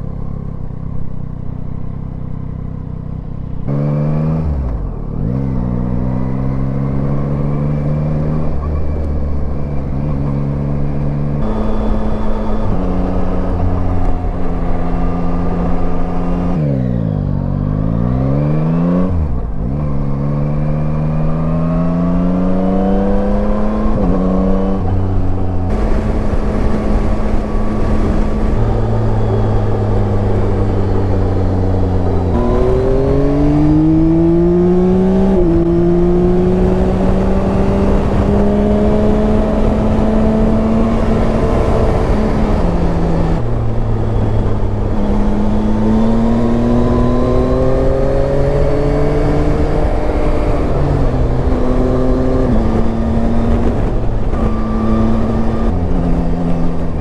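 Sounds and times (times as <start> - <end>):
motorcycle engine shifting gears: 0.0 - 57.0
wind and road noise: 0.0 - 57.0.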